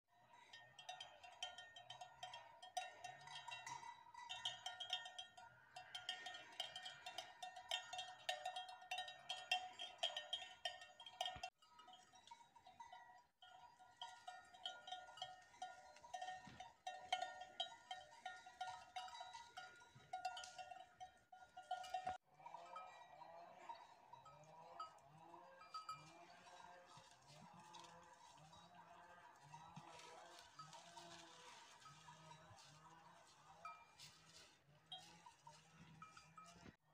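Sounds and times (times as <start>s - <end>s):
cowbells clanking: 0.2s - 36.9s.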